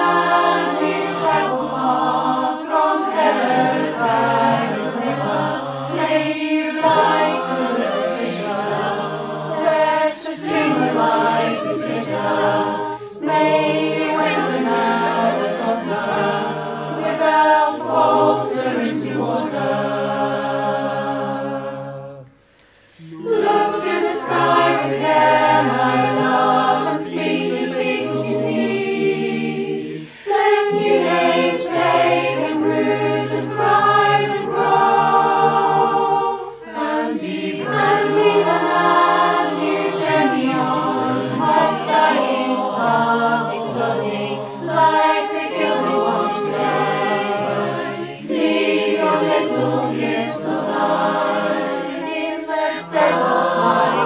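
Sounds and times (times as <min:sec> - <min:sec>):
mixed choir singing in harmony: 0:00.0 - 0:54.0.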